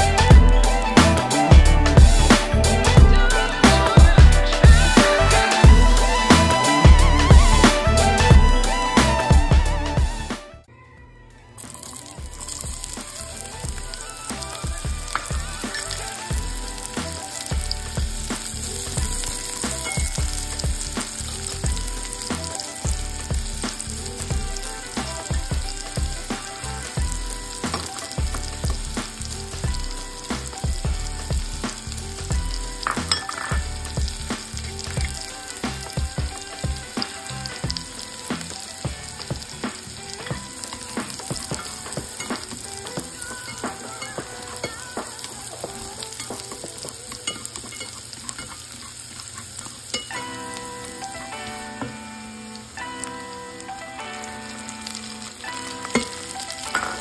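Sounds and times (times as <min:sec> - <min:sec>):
shallots and garlic sizzling in fat: 0:00.0 - 0:10.4, 0:11.6 - 0:57.0.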